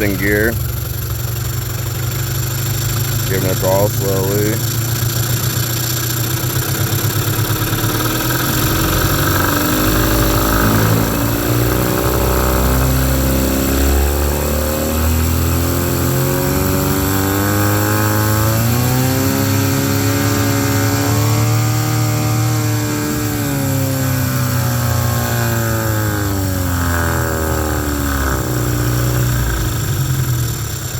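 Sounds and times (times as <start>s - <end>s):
outboard motor running: 0.0s - 30.9s.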